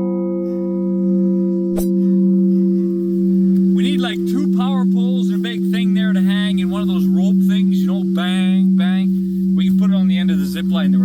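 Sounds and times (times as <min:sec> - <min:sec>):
large metal bell ringing: 0:00.0 - 0:11.0.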